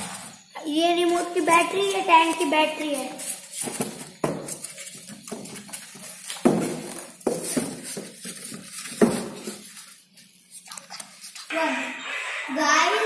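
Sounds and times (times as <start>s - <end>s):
polystyrene foam rubbing: 0.0s - 11.5s.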